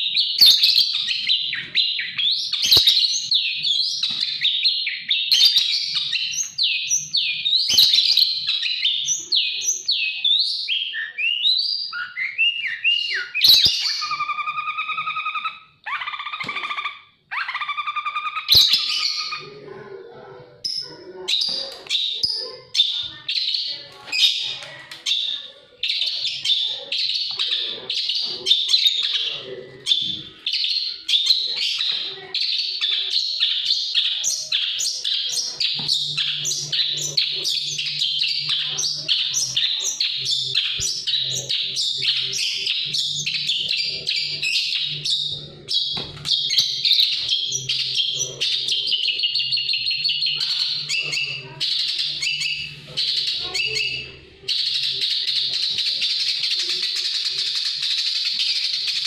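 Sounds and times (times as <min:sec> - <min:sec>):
songbird singing: 0:00.0 - 0:19.7, 0:20.4 - 0:59.0.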